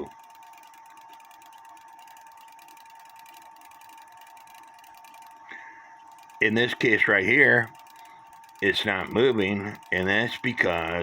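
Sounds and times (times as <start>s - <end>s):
clock movement ticking: 0.0s - 11.0s
thin steady tone: 0.0s - 11.0s.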